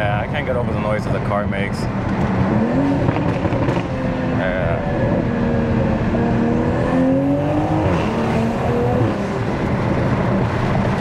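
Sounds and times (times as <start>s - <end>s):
road noise: 0.0s - 11.0s
car engine revving: 1.9s - 11.0s.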